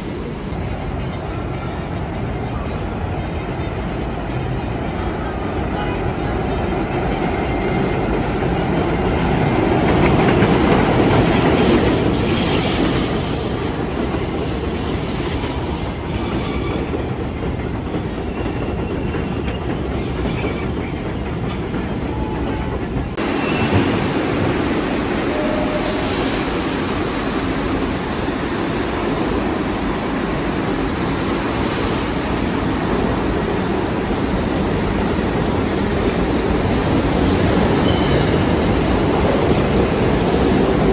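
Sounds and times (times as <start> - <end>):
subway train rumble: 0.0 - 40.9.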